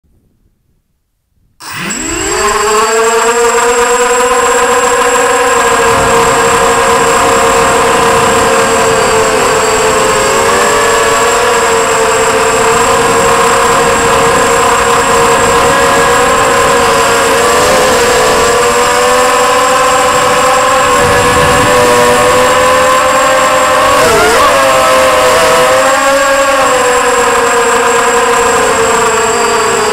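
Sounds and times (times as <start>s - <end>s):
electric motor and propeller whine: 1.6s - 29.9s.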